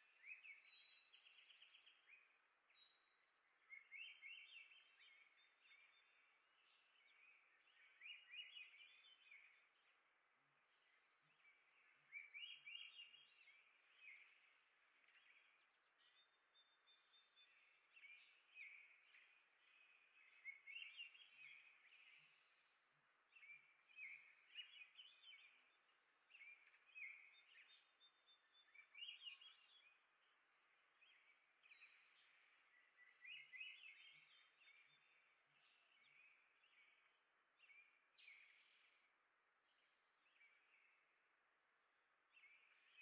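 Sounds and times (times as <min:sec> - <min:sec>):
faint steady hiss: 0:00.0 - 0:43.0
songbirds chirping: 0:00.0 - 0:43.0.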